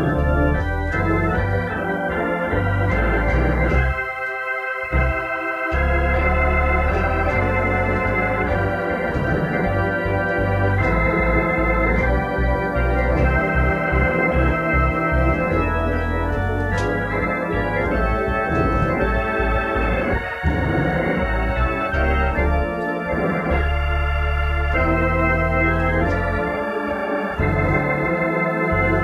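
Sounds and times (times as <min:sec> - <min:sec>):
organ playing chords: 0:00.0 - 0:29.0.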